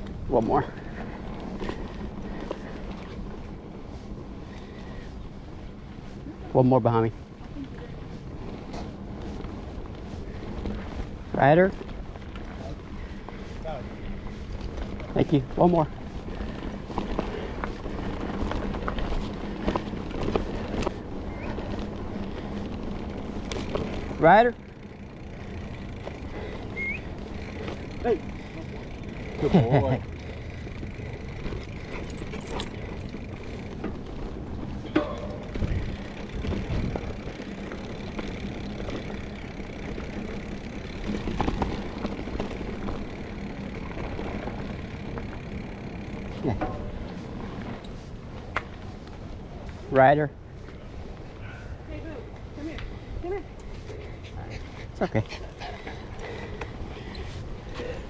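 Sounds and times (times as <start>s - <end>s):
bike tyres rumbling on dirt: 0.0s - 51.4s.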